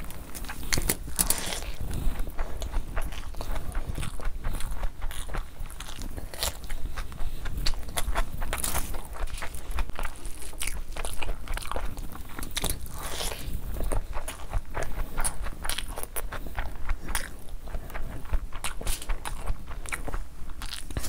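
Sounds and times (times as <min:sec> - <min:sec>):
wet chewing and lip smacking: 0:00.0 - 0:21.0.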